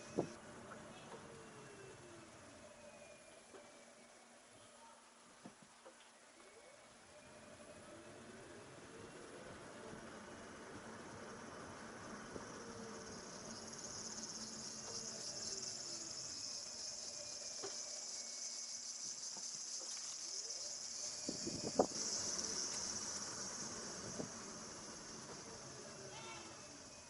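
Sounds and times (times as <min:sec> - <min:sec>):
electric car drive whine: 0:00.0 - 0:04.6, 0:06.3 - 0:27.0
high-pitched hiss: 0:00.0 - 0:27.0.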